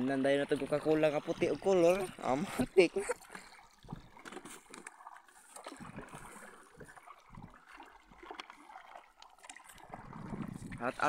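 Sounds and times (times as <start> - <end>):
water gurgling and lapping: 0.0 - 11.0.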